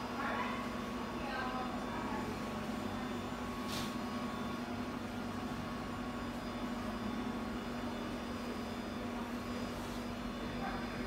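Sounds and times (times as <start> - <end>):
server room machine hum: 0.0 - 11.0.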